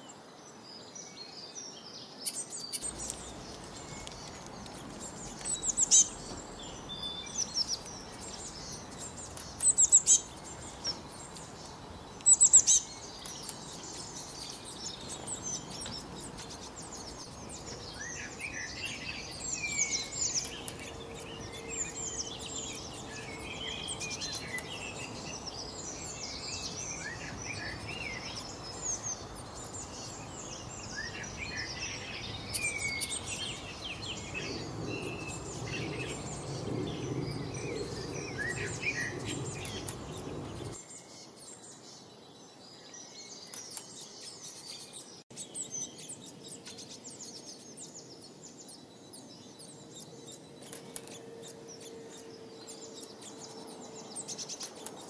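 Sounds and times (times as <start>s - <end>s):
background hiss: 0.0s - 55.0s
songbirds chirping and singing: 0.0s - 55.0s.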